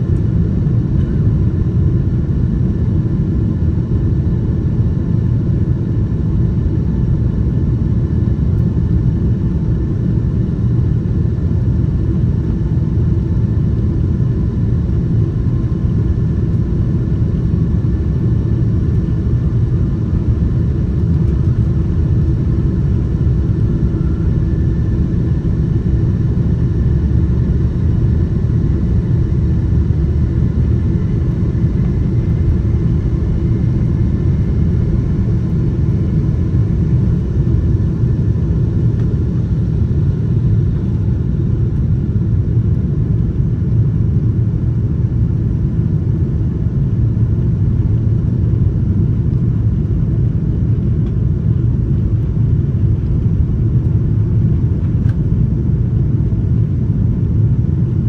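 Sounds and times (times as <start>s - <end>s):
jet engines deep rumble: 0.0s - 58.0s.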